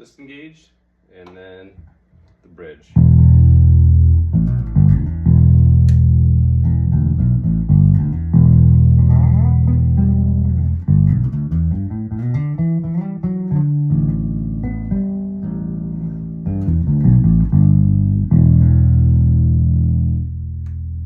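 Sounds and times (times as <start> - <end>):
electric bass played fingerstyle: 3.0 - 21.0.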